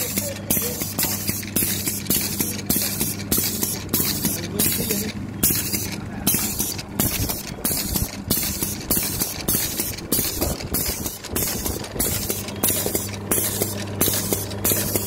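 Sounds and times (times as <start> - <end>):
briquette press motor hum: 0.0 - 15.0
rhythmic mechanical clatter and hiss: 0.0 - 15.0.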